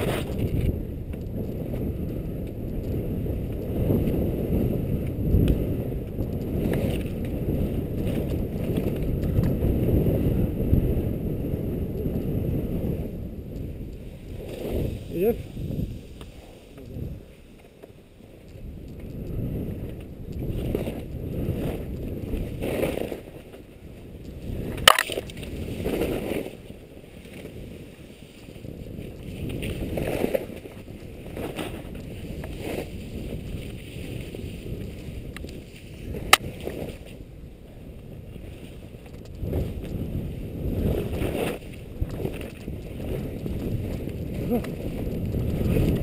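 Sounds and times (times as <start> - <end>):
skis sliding over snow: 0.0 - 46.0
wind rumbling on microphone: 0.0 - 46.0.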